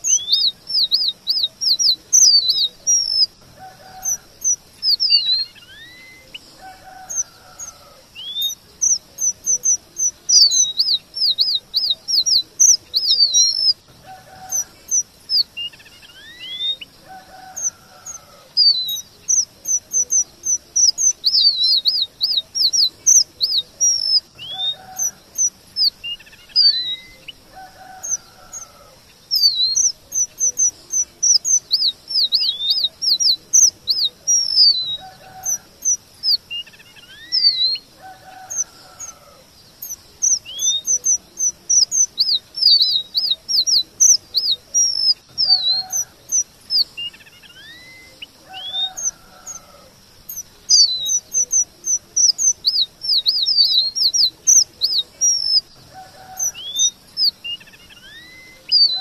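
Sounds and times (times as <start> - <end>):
finch singing high chirps: 0.0 - 59.0.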